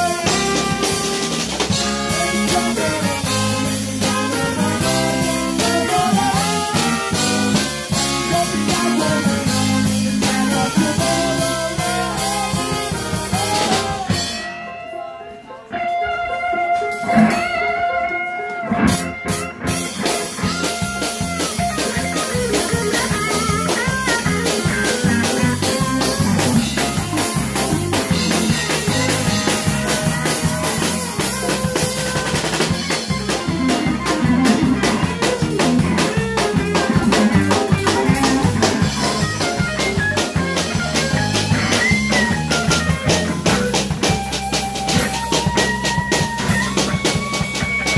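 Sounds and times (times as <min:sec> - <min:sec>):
drum kit: 0:00.0 - 0:14.7, 0:15.8 - 0:47.9
saxophones and trumpet playing: 0:00.0 - 0:15.1, 0:16.2 - 0:47.9.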